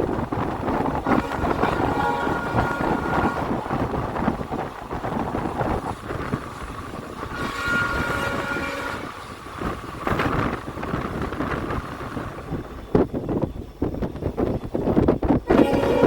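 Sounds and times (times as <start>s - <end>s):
train rattling on track: 0.0s - 16.0s.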